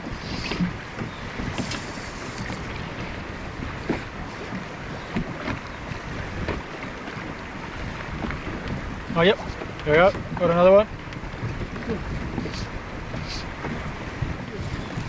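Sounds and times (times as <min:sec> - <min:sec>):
water lapping against boat hull: 0:00.0 - 0:15.0
wind on microphone: 0:00.0 - 0:15.0.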